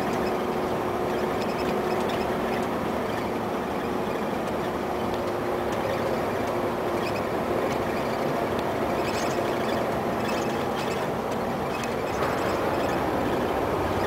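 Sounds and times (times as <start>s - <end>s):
truck diesel engine from cab: 0.0s - 14.0s
tyre road noise: 0.0s - 14.0s.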